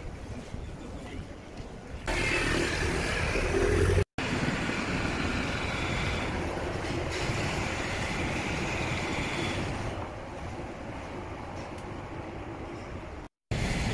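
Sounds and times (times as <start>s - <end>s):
outdoor ambient rumble and hiss: 0.0s - 13.9s.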